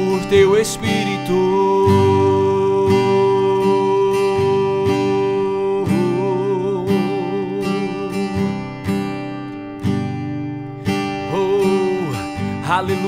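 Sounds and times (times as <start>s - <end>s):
person singing: 0.0s - 8.7s, 11.0s - 13.0s
acoustic guitar strumming: 0.0s - 13.0s.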